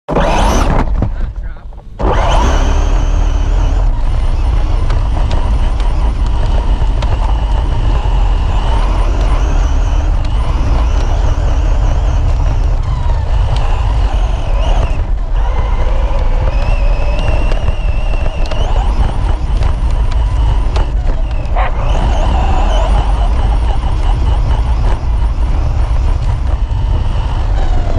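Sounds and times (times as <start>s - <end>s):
electric rc car motor whining: 0.1s - 1.1s, 2.0s - 27.9s
heavy low rumble: 0.1s - 27.9s.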